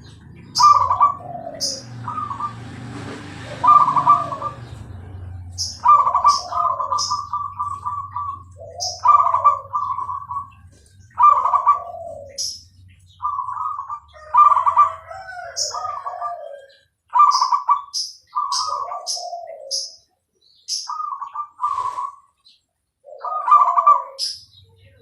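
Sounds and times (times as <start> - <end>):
small bird chirping: 0.0 - 2.8, 3.6 - 25.0
dove cooing: 0.0 - 25.0.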